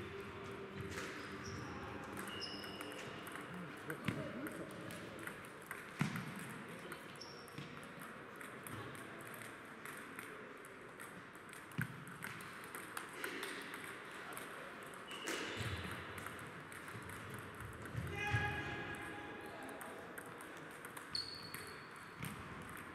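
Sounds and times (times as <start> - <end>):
table tennis balls clicking: 2.0 - 18.0, 19.7 - 22.9.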